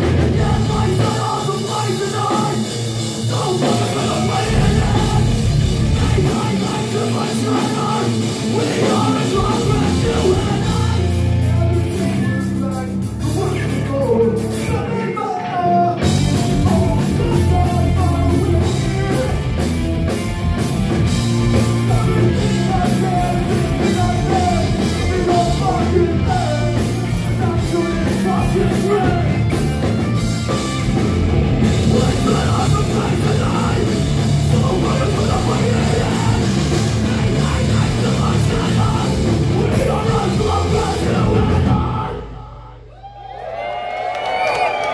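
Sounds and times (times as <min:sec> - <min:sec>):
vocalist singing: 0:00.0 - 0:19.5, 0:21.5 - 0:29.9, 0:31.6 - 0:43.0
live rock band playing: 0:00.0 - 0:42.3.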